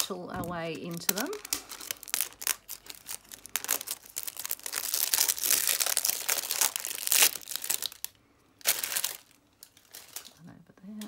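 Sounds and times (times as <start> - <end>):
packaging rustling and crinkling: 0.0 - 10.4.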